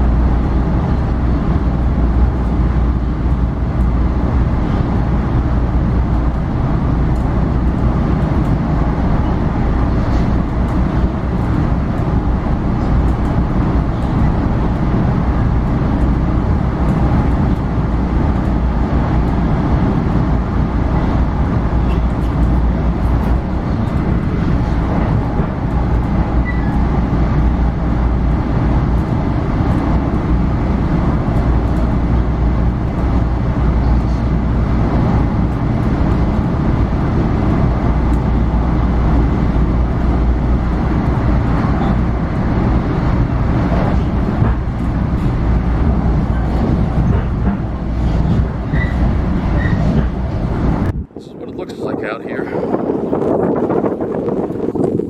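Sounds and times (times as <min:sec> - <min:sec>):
train rumble inside car: 0:00.0 - 0:55.0.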